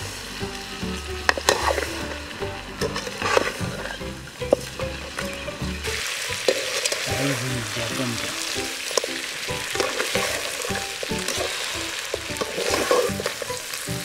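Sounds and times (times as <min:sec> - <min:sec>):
meat sizzling in oil: 0:00.0 - 0:14.0
ladle scraping a pan: 0:01.2 - 0:13.8.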